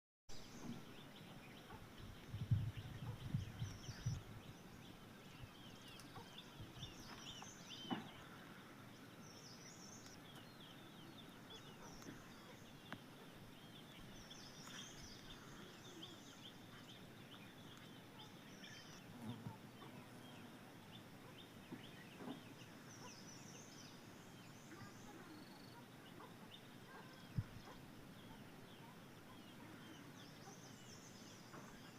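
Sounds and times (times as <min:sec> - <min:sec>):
birds chirping: 0:00.3 - 0:31.9.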